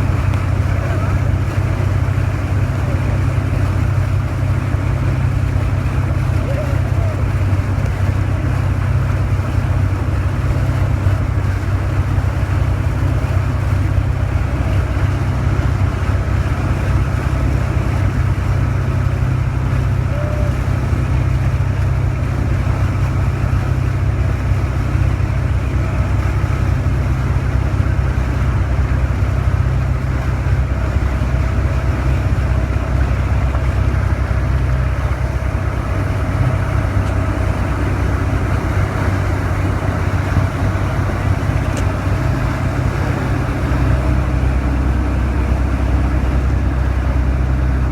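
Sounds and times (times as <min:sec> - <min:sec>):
boat motor droning: 0:00.0 - 0:47.9.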